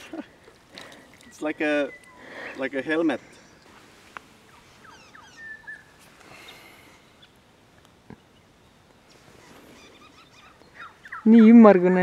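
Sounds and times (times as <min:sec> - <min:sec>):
faint bird calls: 0:00.0 - 0:11.6.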